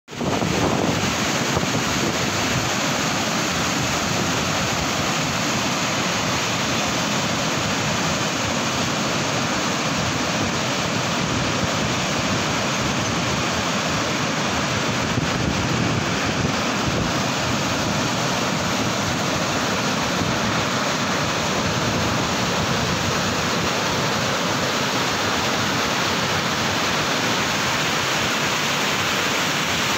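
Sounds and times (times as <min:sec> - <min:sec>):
river rapids rushing over boulders: 0:00.1 - 0:29.9.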